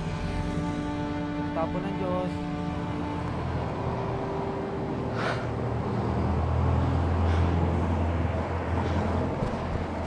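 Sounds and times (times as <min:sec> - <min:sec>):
rumble of motor traffic: 0:00.0 - 0:10.0.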